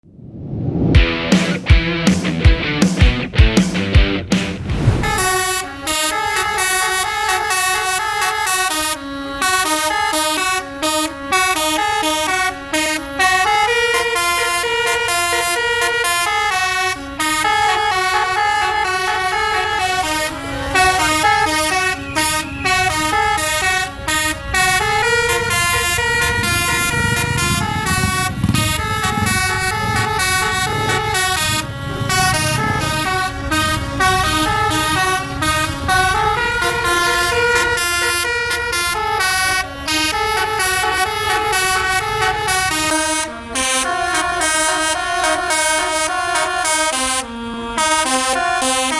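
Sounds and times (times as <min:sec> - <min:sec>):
engine and traffic rumble: 0:00.0 - 0:48.9
bus air horns tooting a tune: 0:05.2 - 0:48.9.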